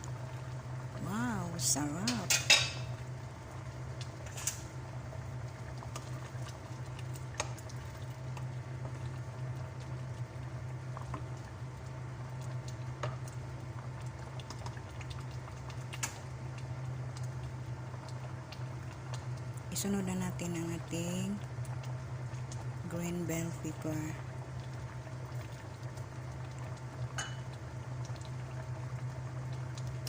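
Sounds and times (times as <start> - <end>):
soup simmering and bubbling: 0.0 - 30.0
steady low hum: 0.0 - 30.0.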